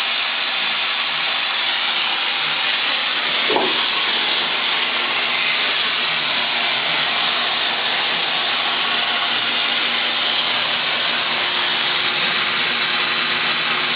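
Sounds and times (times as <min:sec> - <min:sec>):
saw whirring: 0:00.0 - 0:13.9.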